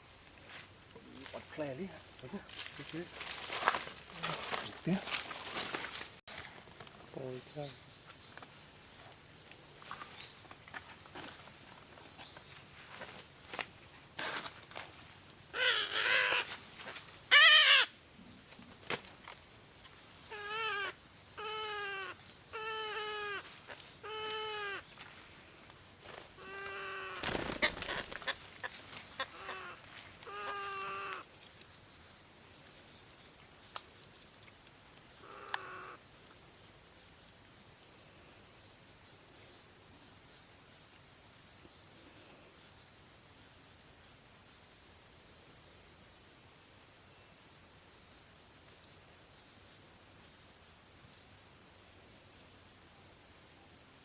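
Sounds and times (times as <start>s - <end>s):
faint insect drone: 0.0s - 54.0s.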